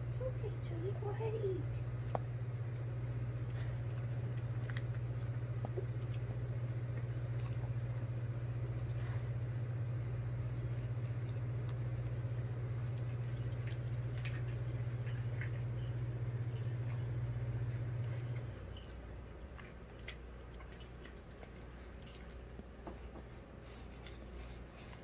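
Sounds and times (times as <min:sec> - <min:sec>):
steady low hum: 0:00.0 - 0:25.0
dog chewing and licking: 0:01.8 - 0:25.0.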